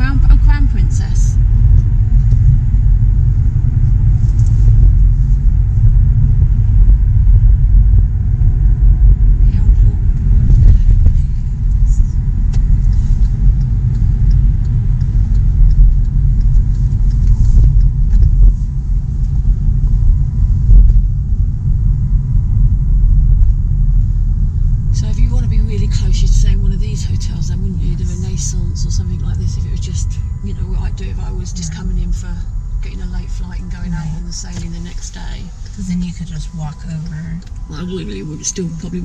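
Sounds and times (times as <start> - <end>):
car road and engine rumble: 0.0 - 39.0.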